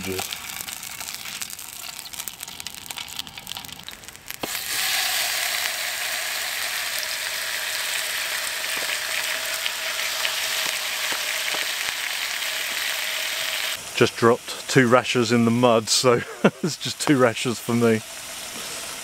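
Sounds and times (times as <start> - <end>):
sausages sizzling in a pan: 0.0 - 19.0.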